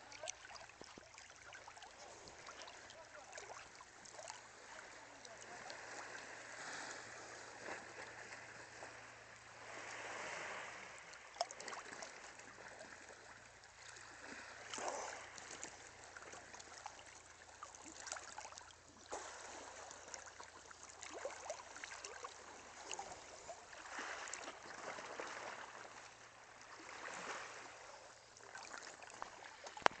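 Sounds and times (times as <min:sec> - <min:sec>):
small water splashes: 0:00.0 - 0:30.0
water lapping and sloshing: 0:00.0 - 0:30.0.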